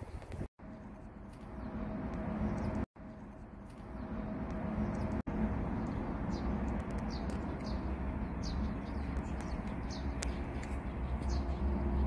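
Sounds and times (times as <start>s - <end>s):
small birds chirping: 0.0s - 12.0s
steady low rumble: 0.2s - 12.0s.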